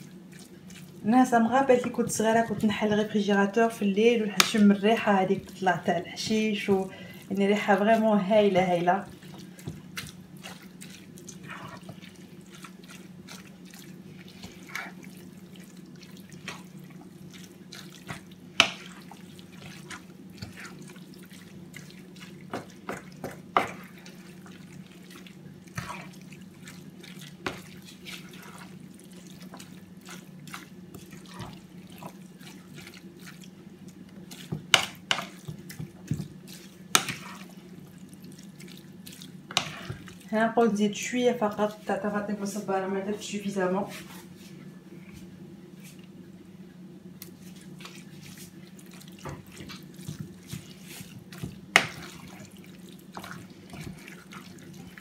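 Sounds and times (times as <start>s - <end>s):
hands squelching wet stuffing: 0.0s - 42.6s, 47.2s - 55.0s.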